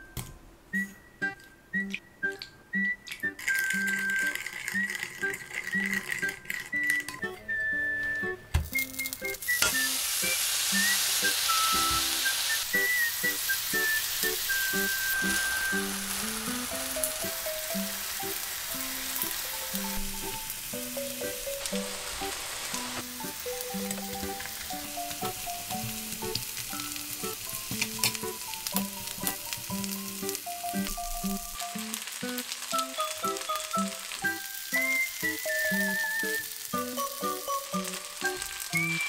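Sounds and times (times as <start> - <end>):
light background melody: 0.0 - 39.0
pork sizzling in a pan: 3.2 - 7.3, 8.6 - 39.0.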